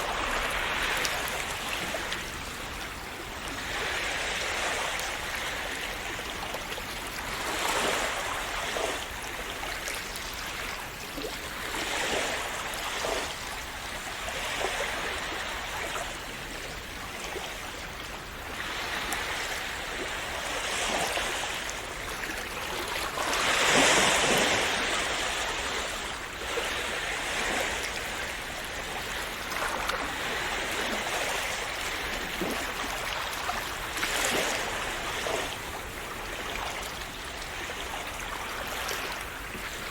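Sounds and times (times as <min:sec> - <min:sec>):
small waves splashing on shore: 0:00.0 - 0:39.9.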